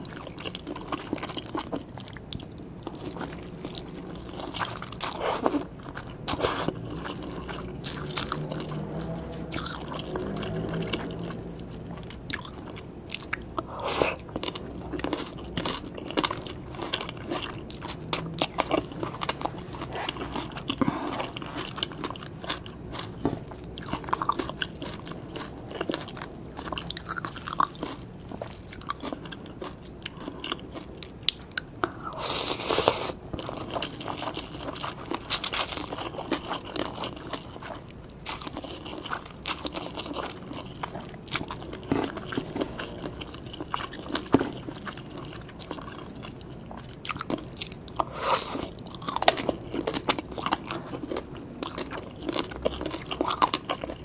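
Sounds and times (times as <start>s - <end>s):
crunching and chewing salad: 0.0s - 54.0s.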